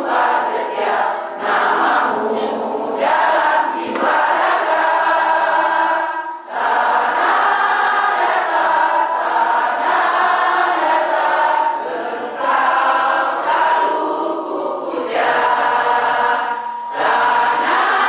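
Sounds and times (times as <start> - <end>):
crowd singing in unison: 0.0 - 18.0.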